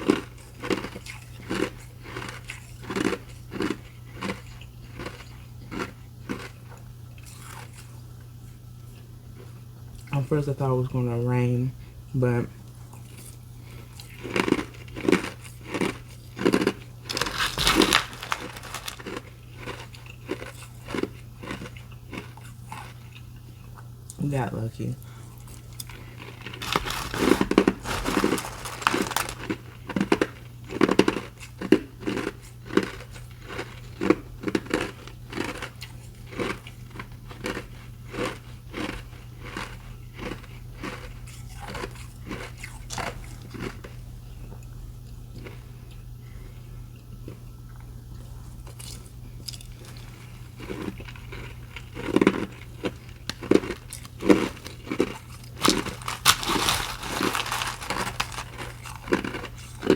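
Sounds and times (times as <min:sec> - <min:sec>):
ice being chewed: 0:00.0 - 0:08.0, 0:12.9 - 0:23.8, 0:25.3 - 0:46.0, 0:47.2 - 0:59.9.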